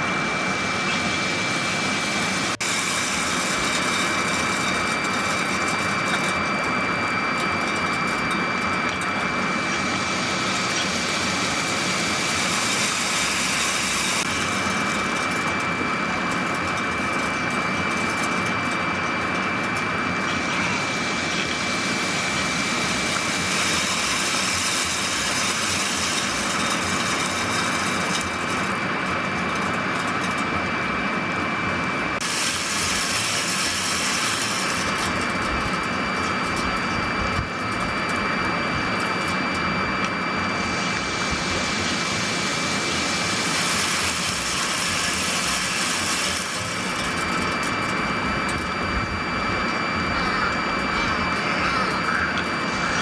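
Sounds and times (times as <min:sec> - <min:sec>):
high-pitched whine: 0:00.0 - 0:53.0
machine drone: 0:00.0 - 0:53.0.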